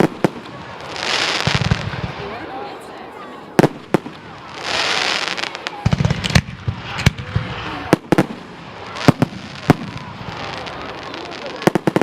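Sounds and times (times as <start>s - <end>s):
fireworks bangs: 0.0s - 2.7s, 3.5s - 12.0s.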